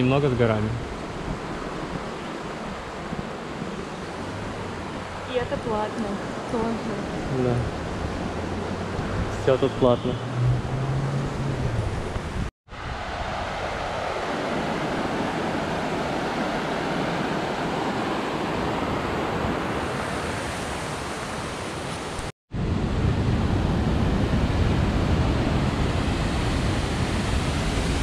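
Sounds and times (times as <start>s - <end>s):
fast water rushing: 0.0s - 22.3s, 23.0s - 28.0s.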